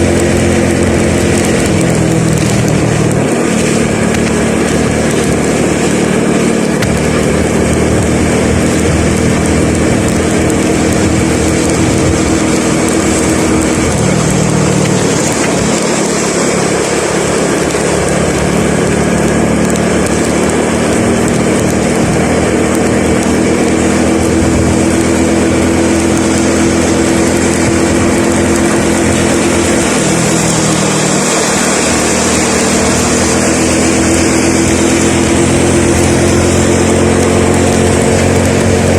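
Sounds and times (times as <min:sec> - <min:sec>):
road noise: 0:00.0 - 0:38.9
vehicle engine running: 0:00.0 - 0:38.9.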